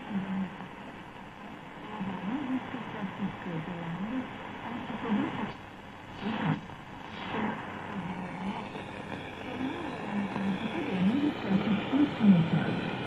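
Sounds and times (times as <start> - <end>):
radio static and hiss: 0.0 - 13.0.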